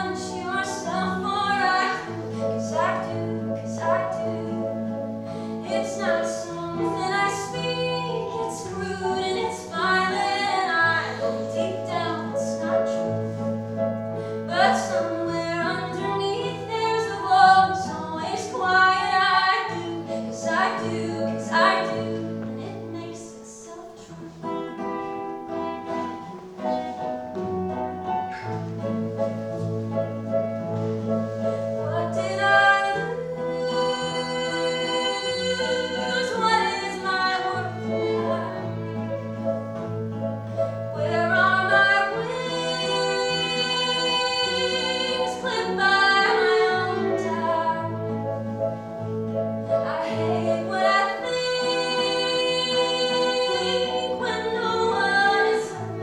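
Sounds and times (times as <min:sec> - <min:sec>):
instrumental accompaniment: 0:00.0 - 0:56.0.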